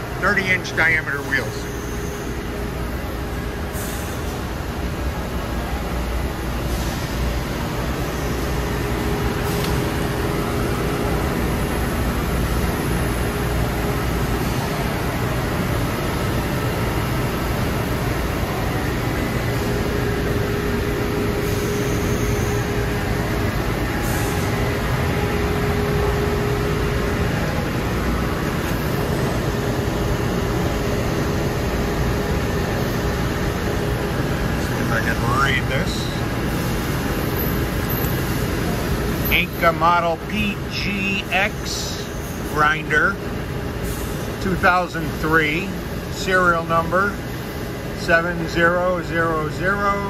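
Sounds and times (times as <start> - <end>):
industrial machinery drone: 0.0 - 50.0.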